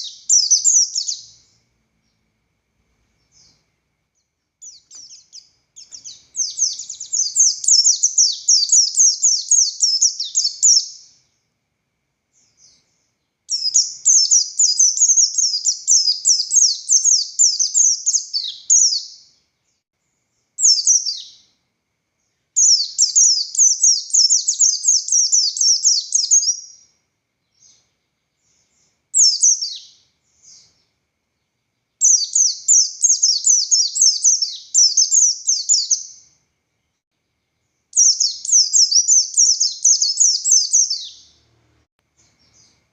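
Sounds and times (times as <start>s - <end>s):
bird chattering song: 0.0s - 2.2s, 3.2s - 11.4s, 12.4s - 19.8s, 20.6s - 21.5s, 22.6s - 26.9s, 27.5s - 36.3s, 38.0s - 41.4s.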